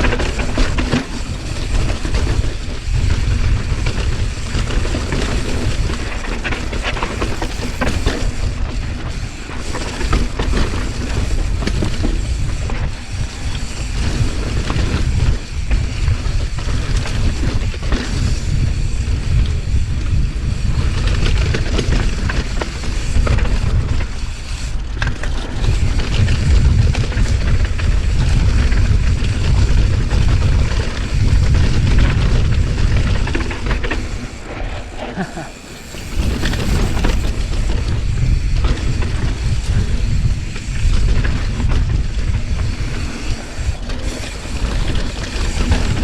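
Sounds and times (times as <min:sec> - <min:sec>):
bike rattling over rough ground: 0:00.0 - 0:46.0
bike tyre noise on dirt: 0:00.0 - 0:46.0
wind buffeting microphone: 0:00.0 - 0:46.0.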